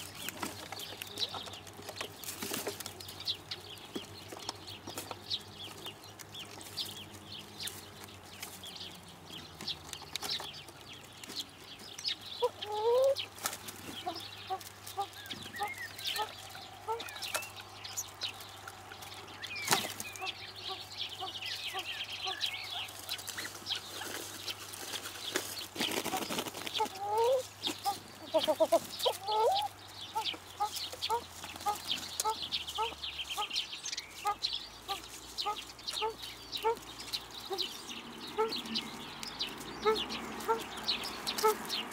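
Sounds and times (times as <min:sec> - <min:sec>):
pheasants clucking harshly: 0:00.0 - 0:41.9
small songbirds chirping: 0:00.0 - 0:41.9.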